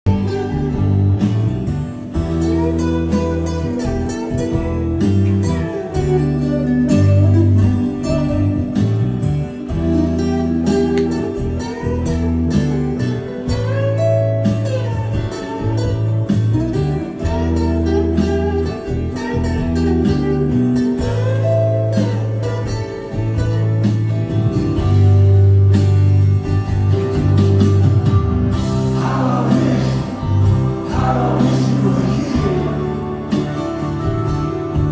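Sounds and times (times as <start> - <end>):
guitar music with deep bass: 0.0 - 34.9.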